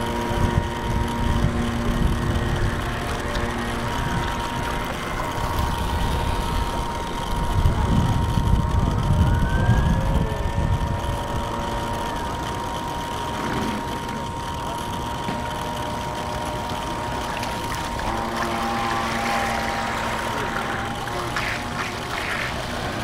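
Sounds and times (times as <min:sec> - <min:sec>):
model boat motor whine: 0:00.0 - 0:23.0
passing boat motor whine: 0:00.0 - 0:23.0.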